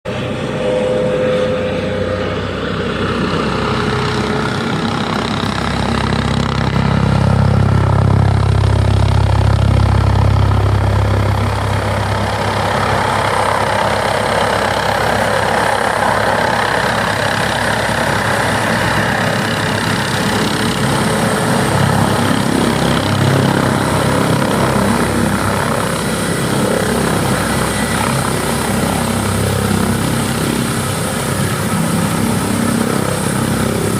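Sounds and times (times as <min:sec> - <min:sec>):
helicopter landing: 0:00.1 - 0:33.9.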